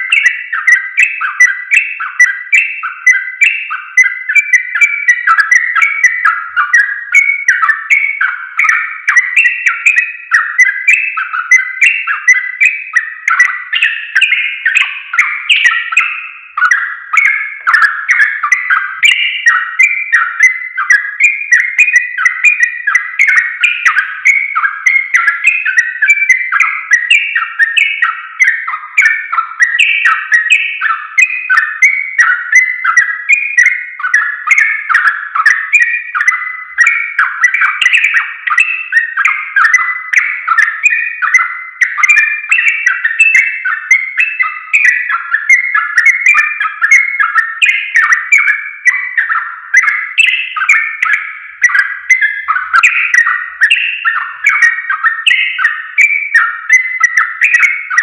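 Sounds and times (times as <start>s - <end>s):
bird singing rapid warbled phrases: 0.0s - 58.0s.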